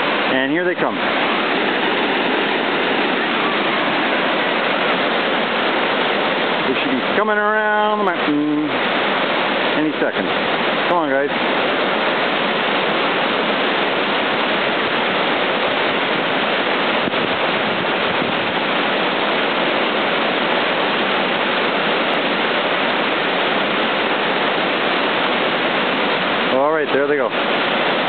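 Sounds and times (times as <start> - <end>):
water rushing over rocks: 0.0 - 28.0.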